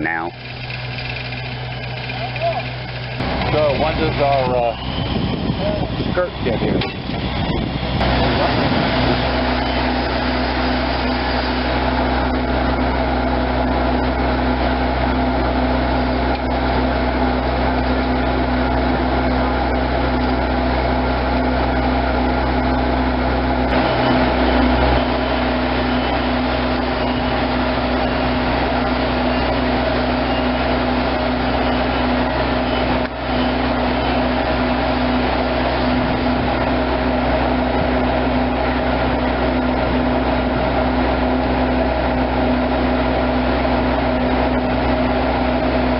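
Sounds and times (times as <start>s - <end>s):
engine droning steadily: 0.0s - 45.9s.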